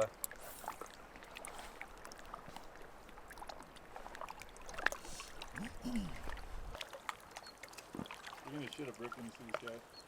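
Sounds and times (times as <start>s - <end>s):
faint water splashing: 0.0s - 10.0s.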